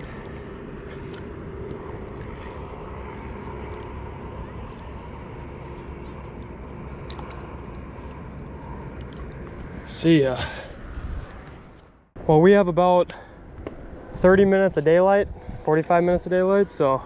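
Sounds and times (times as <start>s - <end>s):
faint humming tones: 0.0s - 17.0s.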